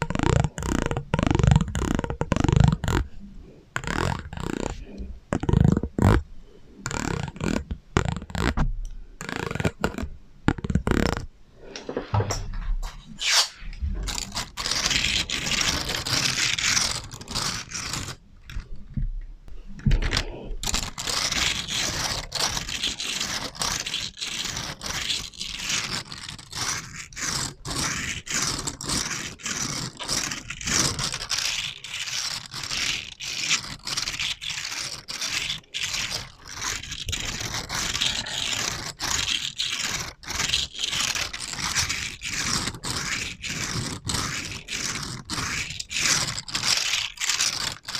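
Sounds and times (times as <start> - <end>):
scratching and scraping with echo: 0.0 - 47.9.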